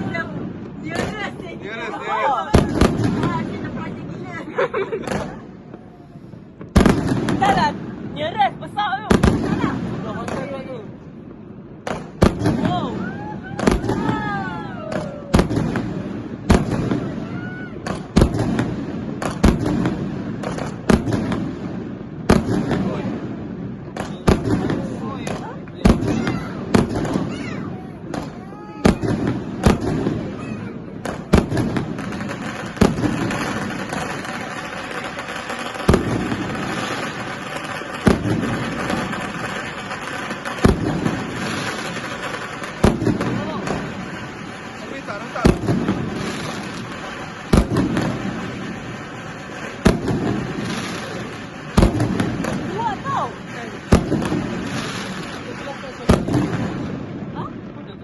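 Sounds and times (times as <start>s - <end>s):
fireworks bangs: 0.0s - 58.0s
fireworks display noise: 0.0s - 58.0s.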